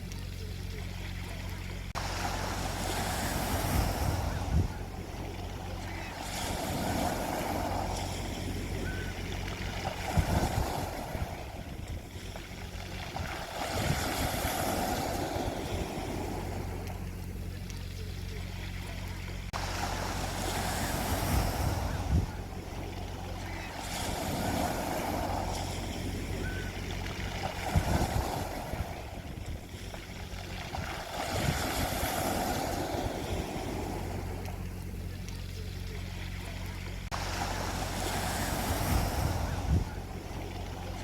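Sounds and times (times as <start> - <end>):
sea waves on a beach: 0.0 - 41.0
steady low rumble: 0.0 - 41.0.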